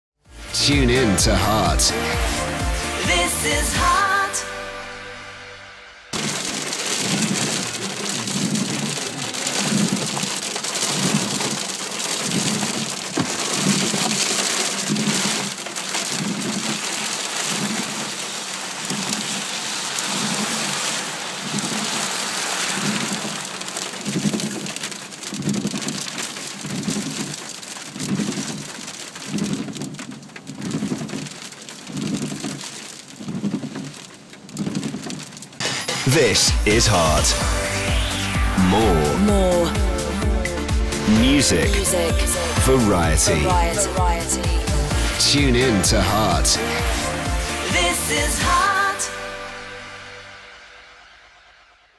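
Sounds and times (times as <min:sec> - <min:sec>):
heavy hail falling: 0:06.1 - 0:48.8.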